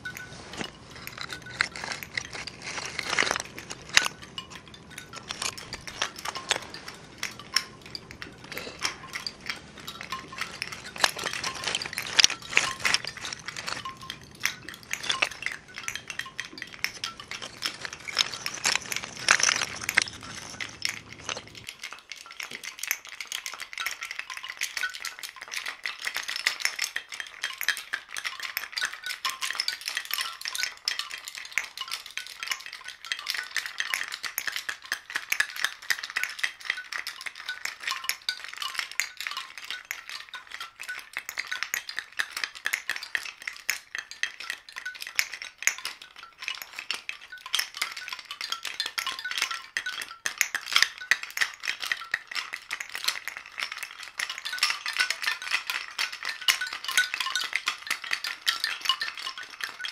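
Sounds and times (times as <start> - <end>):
oyster shells clinking: 0.0 - 59.9.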